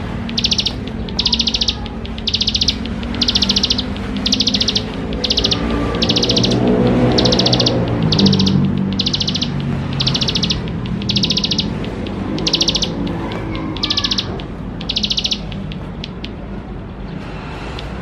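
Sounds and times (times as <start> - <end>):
songbird buzzing trills: 0.0 - 16.4.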